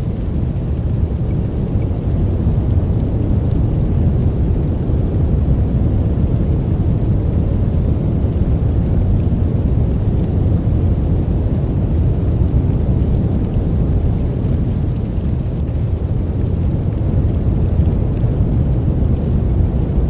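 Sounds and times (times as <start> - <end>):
deep white noise rumble: 0.0 - 20.0.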